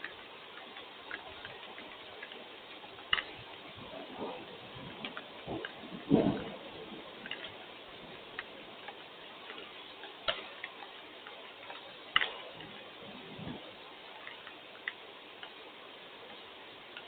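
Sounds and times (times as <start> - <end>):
rain hiss: 0.0 - 17.0
raindrops ticking on hard surface: 0.0 - 17.0.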